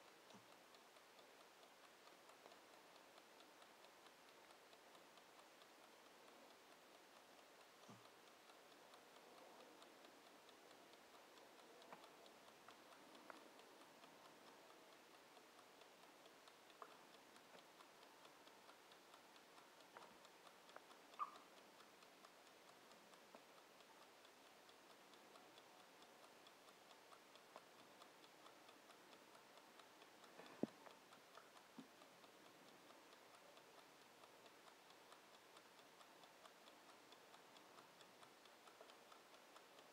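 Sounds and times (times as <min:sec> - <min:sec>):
kitchen timer ticking: 0:00.0 - 0:39.9
sharp clicks: 0:00.0 - 0:39.9.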